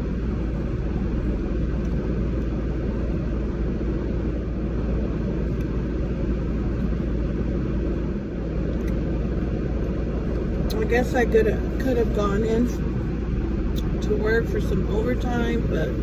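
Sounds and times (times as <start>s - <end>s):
car idling with fans running: 0.0s - 16.0s.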